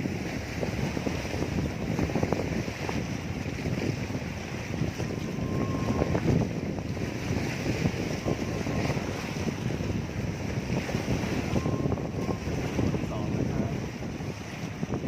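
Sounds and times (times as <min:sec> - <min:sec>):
waves washing on shore: 0:00.0 - 0:15.0
wind buffeting microphone: 0:00.0 - 0:15.0.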